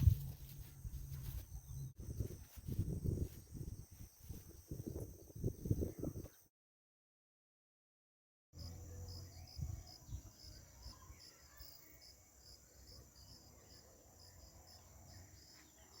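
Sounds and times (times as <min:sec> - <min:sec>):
insects chirping: 0:00.0 - 0:06.4, 0:08.6 - 0:16.0.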